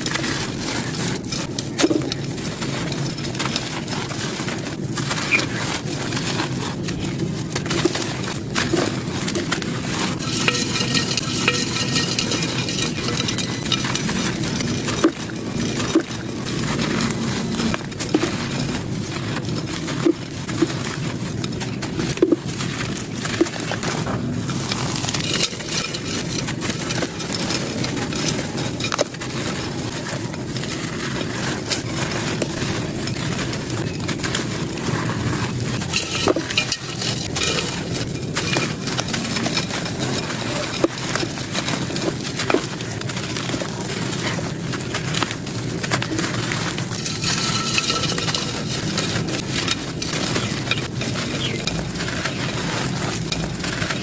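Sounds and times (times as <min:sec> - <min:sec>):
pieces snapping: 0:00.0 - 0:54.0
sand-cement chunks crunching: 0:00.0 - 0:54.0.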